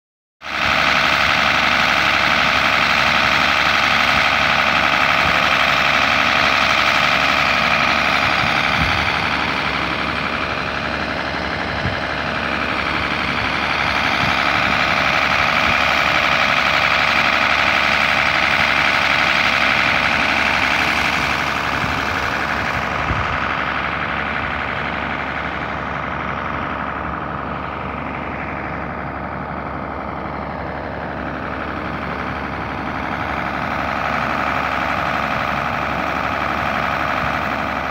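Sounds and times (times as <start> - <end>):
stationary engine running: 0.4 - 37.9.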